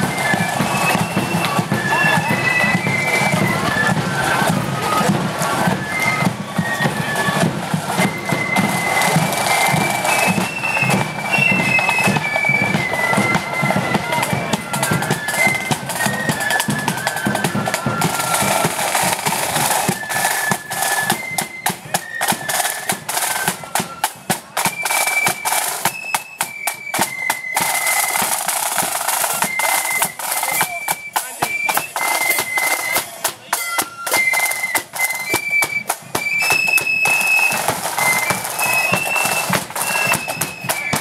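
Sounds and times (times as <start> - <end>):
flute band melody: 0.0 - 41.0
snare drums beating: 0.0 - 41.0.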